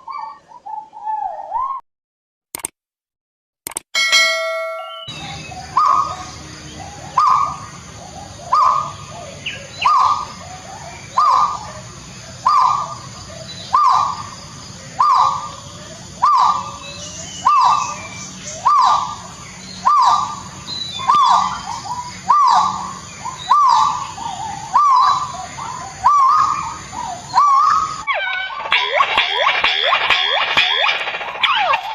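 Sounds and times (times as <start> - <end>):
pheasant calling: 4.9 - 11.8, 12.4 - 14.4, 15.0 - 31.9
forest insects humming: 5.1 - 31.9.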